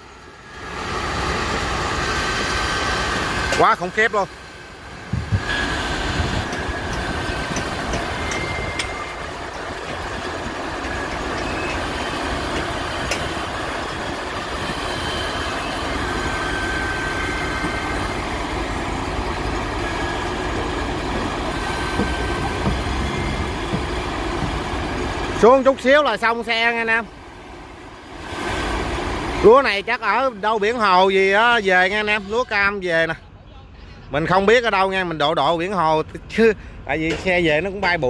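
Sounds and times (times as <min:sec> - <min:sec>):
grain conveyor running: 0:00.0 - 0:32.1
truck engines running: 0:00.0 - 0:38.0.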